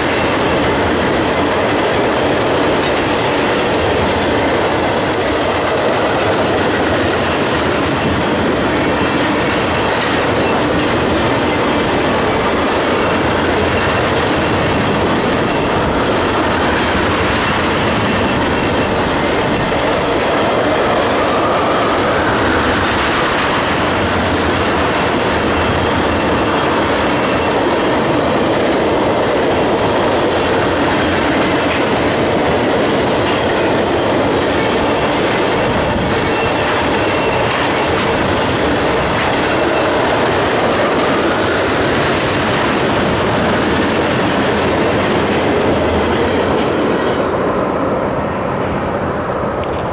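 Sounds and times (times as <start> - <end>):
train wheels clattering on rails: 0.0 - 48.8.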